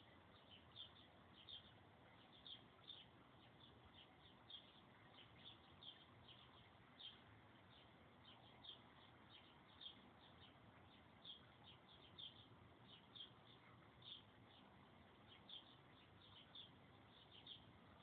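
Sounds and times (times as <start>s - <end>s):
faint bird chirping: 0.0s - 18.0s
low steady hiss: 0.0s - 18.0s.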